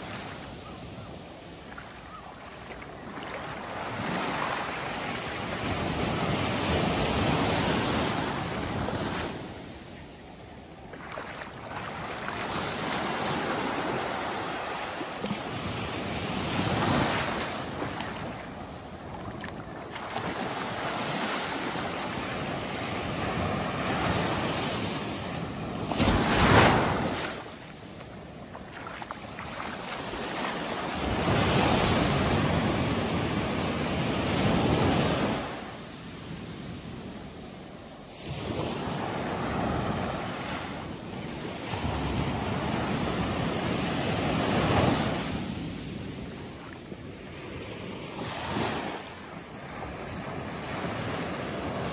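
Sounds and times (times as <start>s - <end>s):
small waves breaking on sand: 0.0s - 51.9s.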